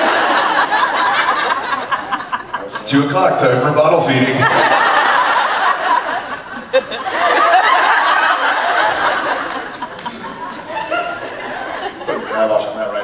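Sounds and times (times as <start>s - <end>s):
large audience laughing: 0.0s - 2.9s, 4.2s - 13.0s.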